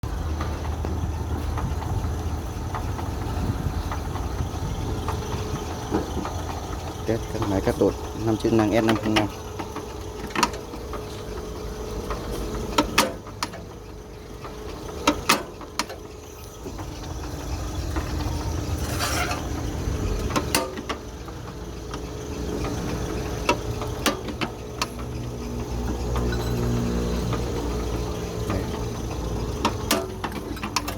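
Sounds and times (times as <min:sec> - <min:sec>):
metallic clicks and knocks: 0:03.8 - 0:19.5, 0:20.2 - 0:30.9.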